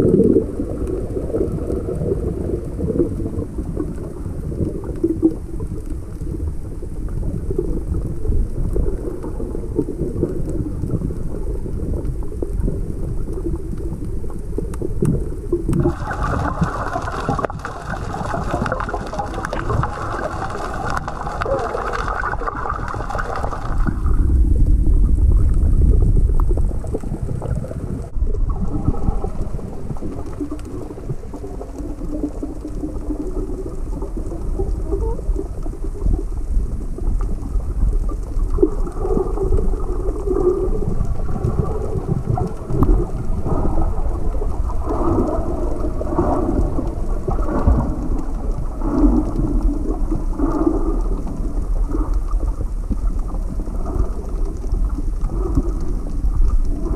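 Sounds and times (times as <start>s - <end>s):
muffled underwater rumble: 0.0s - 56.9s.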